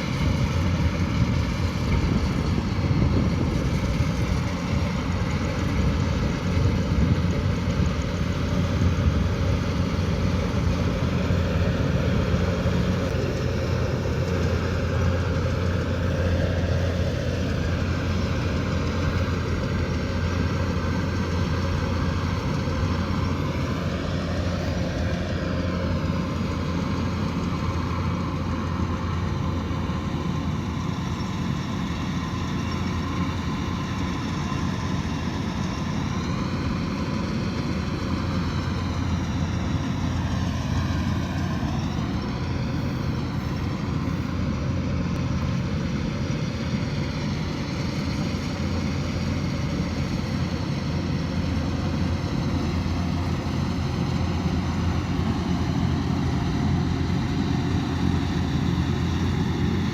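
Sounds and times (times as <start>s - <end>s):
diesel engine hum: 0.0s - 59.9s.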